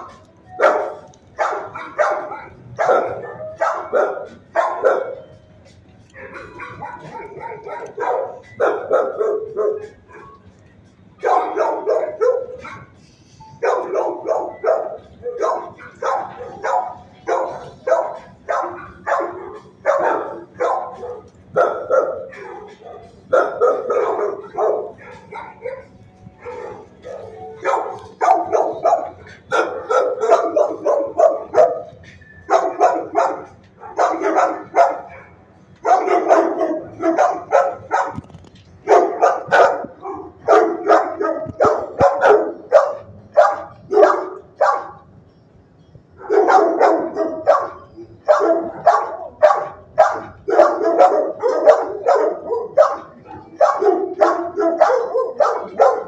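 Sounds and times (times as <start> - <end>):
dogs barking: 0.0 - 45.3, 46.1 - 56.0.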